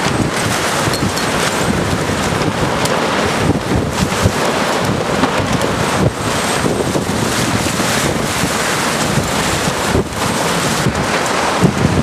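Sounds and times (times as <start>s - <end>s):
storm wind buffeting microphone: 0.0s - 12.0s.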